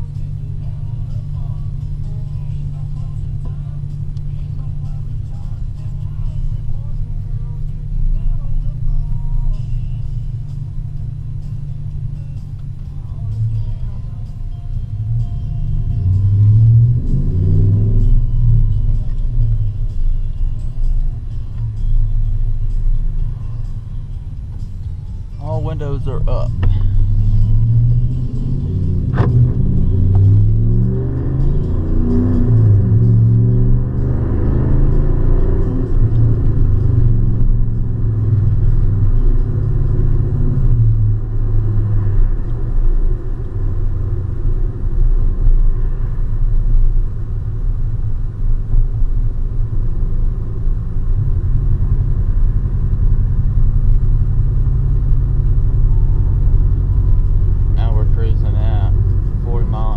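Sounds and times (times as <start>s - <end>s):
truck engine and exhaust drone: 0.0s - 59.9s.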